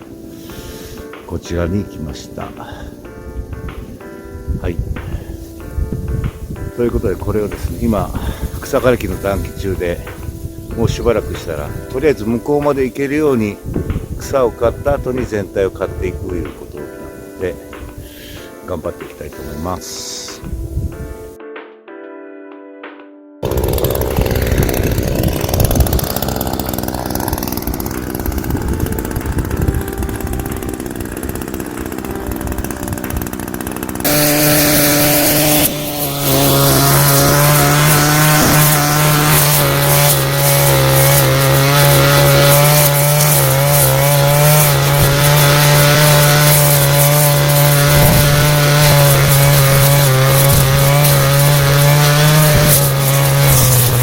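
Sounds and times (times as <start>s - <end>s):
brush cutter engine running: 0.0s - 18.5s, 23.4s - 54.0s.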